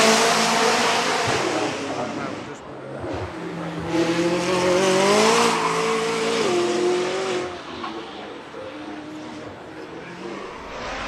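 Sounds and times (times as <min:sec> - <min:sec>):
sports car engine accelerating: 0:00.0 - 0:11.0.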